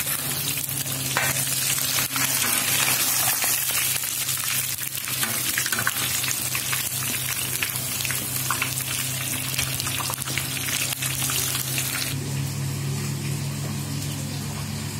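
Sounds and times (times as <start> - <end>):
fish frying in hot oil: 0.0 - 12.2.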